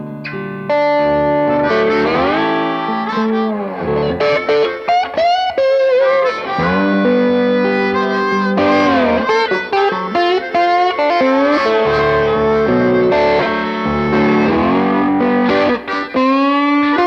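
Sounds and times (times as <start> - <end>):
blues guitar lead: 0.0 - 17.0.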